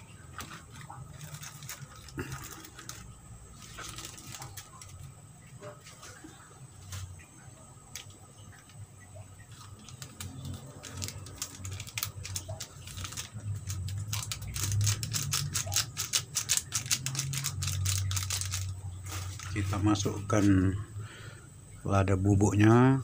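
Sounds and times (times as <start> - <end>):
broth crackling and popping: 0.0 - 20.6.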